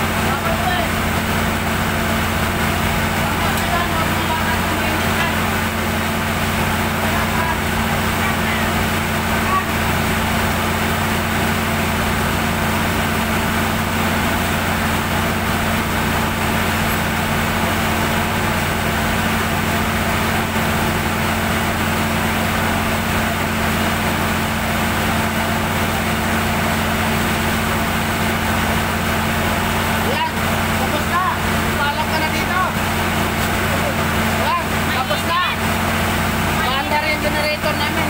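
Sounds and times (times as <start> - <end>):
diesel generator humming: 0.0 - 38.0.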